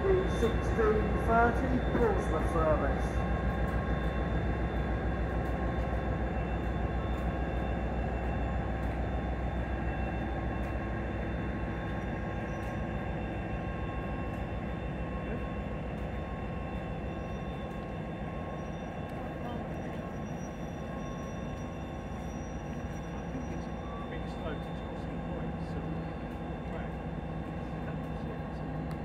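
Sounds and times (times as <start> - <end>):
diesel locomotive engine running: 0.0 - 29.0.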